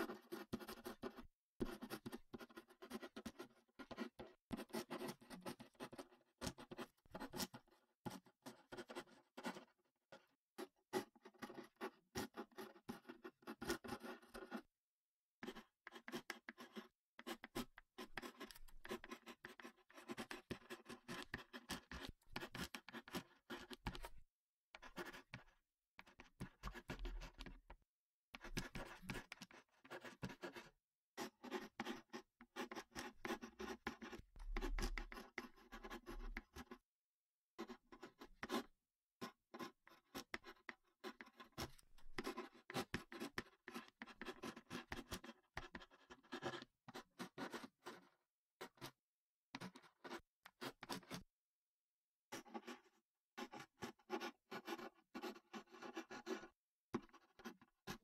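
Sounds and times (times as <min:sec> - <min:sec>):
ballpoint pen scratching: 0:00.0 - 0:09.7, 0:10.6 - 0:14.6, 0:15.4 - 0:27.7, 0:28.4 - 0:36.8, 0:37.6 - 0:51.2, 0:52.3 - 0:58.0.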